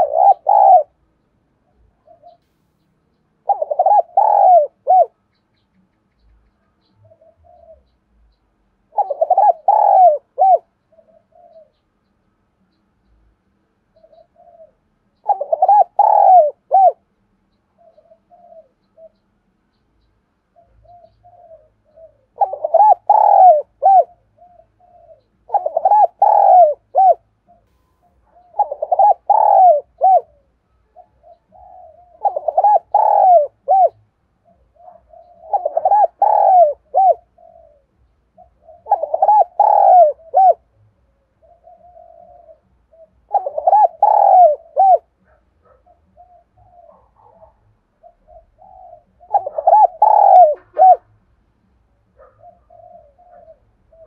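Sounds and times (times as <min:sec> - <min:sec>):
dove cooing: 0:00.0 - 0:02.4, 0:03.4 - 0:05.4, 0:06.8 - 0:11.9, 0:13.9 - 0:17.1, 0:17.7 - 0:19.3, 0:20.5 - 0:51.3, 0:52.0 - 0:54.0.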